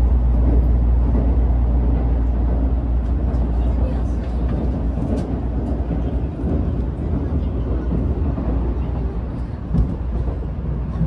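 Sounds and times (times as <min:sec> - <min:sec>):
train cabin rumble and rush: 0:00.0 - 0:11.0.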